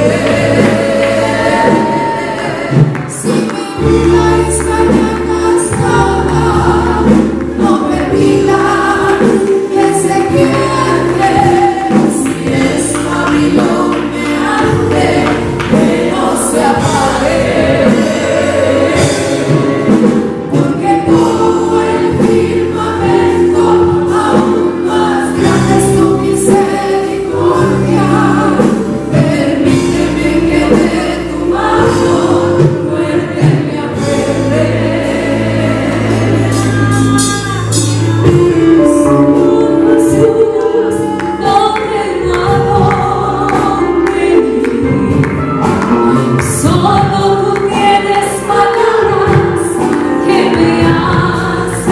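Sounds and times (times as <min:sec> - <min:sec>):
live church band: 0:00.0 - 0:51.9
woman singing a hymn: 0:00.0 - 0:51.9.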